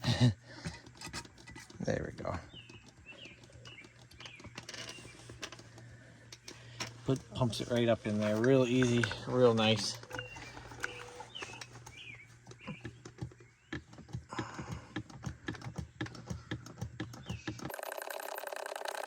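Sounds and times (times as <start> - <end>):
birds chirping: 0.0 - 19.0
hand oil pump clicks and squelches: 0.5 - 19.0.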